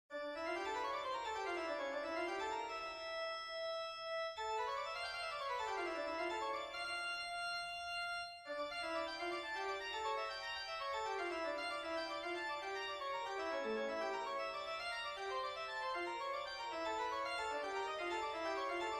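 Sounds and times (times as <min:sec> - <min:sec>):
organ-like keyboard music: 0:00.2 - 0:18.9.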